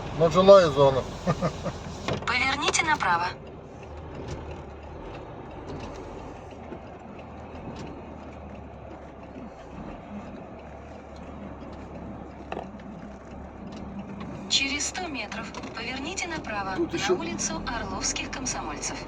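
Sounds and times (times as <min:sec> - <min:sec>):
road noise: 0:00.0 - 0:19.0
truck engine hum: 0:00.0 - 0:19.0.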